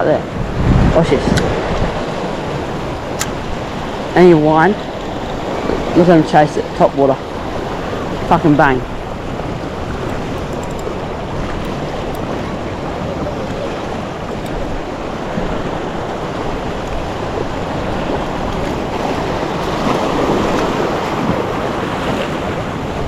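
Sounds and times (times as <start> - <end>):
sea water lapping: 0.0 - 23.0
wind rushing: 0.2 - 21.8.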